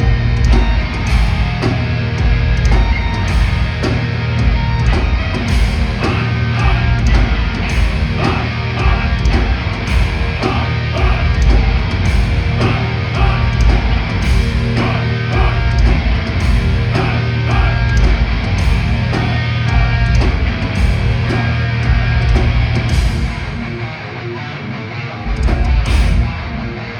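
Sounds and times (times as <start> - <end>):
heavy metal band playing: 0.0 - 26.9.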